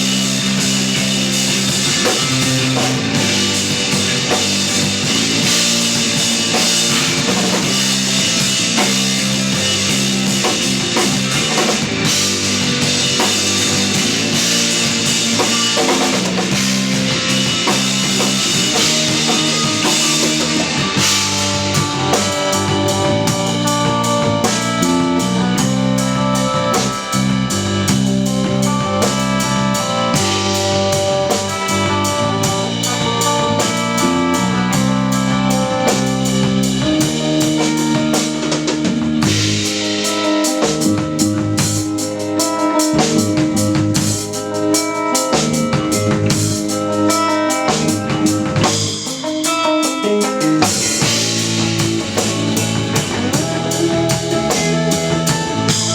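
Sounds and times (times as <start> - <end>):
drum kit: 0.0 - 55.9
electric bass: 0.0 - 55.9
electric guitar: 0.0 - 55.9.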